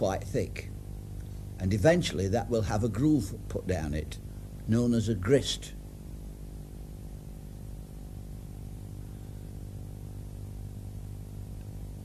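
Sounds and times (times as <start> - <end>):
faint hiss: 0.0 - 12.0
low hum: 0.0 - 12.0.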